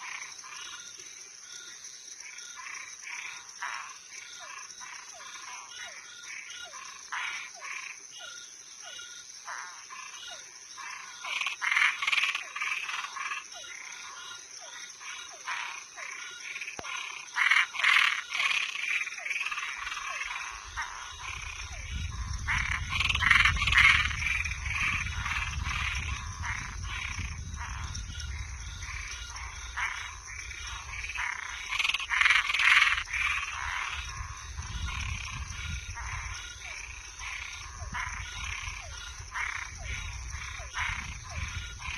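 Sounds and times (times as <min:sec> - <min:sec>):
frogs croaking: 0:00.0 - 0:41.9.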